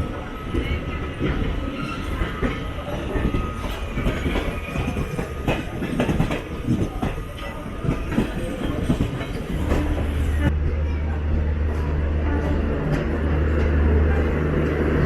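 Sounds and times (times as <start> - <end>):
train wheels clattering over rails: 0.0 - 15.0.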